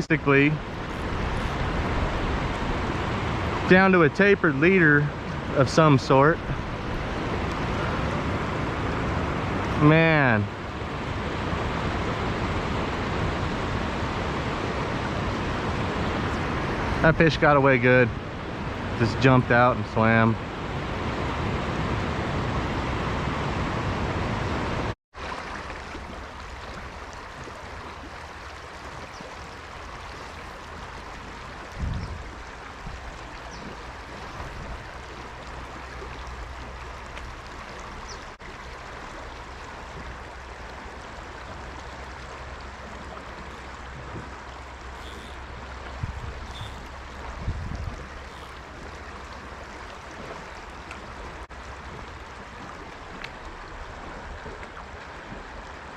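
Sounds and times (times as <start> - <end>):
river flowing: 0.0 - 55.9.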